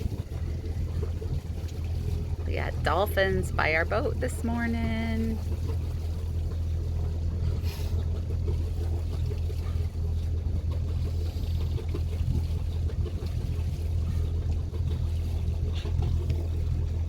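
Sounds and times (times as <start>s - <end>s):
boat engine humming: 0.0s - 17.0s
water noise: 0.0s - 17.0s.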